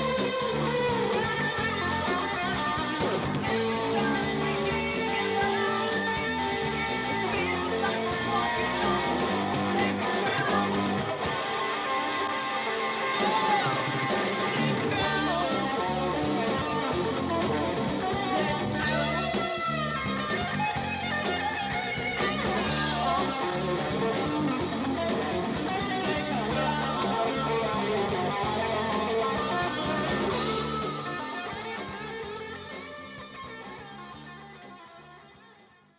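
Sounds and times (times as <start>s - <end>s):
guitar music with bass: 0.0s - 35.9s.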